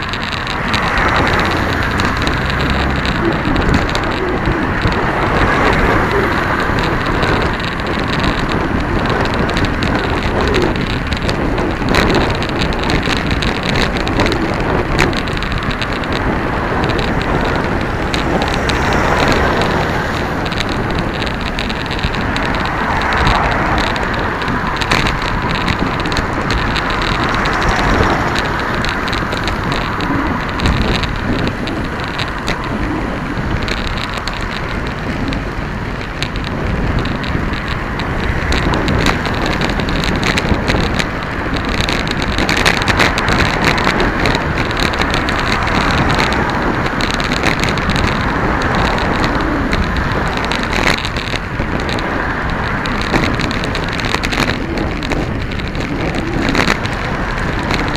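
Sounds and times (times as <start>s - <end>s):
wind noise on microphone: 0.0s - 57.9s.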